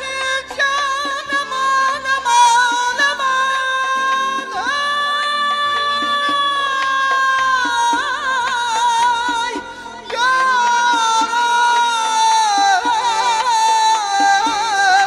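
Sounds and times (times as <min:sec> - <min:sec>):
accordion: 0:00.0 - 0:15.0
man singing into microphone: 0:00.0 - 0:15.0.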